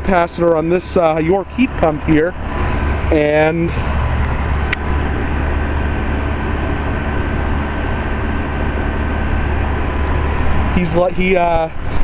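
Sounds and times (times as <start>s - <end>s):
faint whine: 0.0s - 12.0s
heat pump hum: 0.0s - 12.0s.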